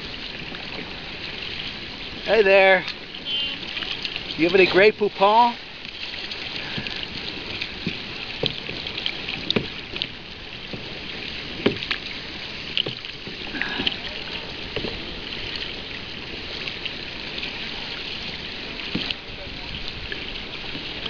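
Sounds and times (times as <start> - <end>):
paddle slaps and drips: 0.0 - 21.0
water lapping around kayak: 0.0 - 21.0.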